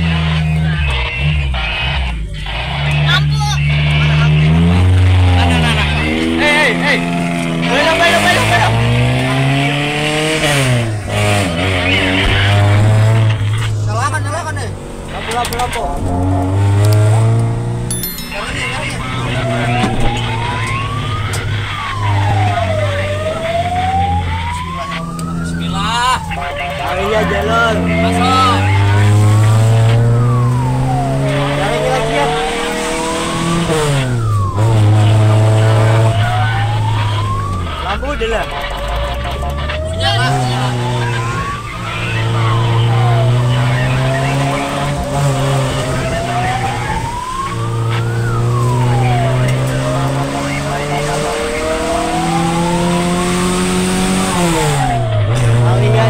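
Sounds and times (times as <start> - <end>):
truck engine drone: 0.0 - 56.0
fire engine siren wailing: 0.8 - 14.5, 18.2 - 56.0.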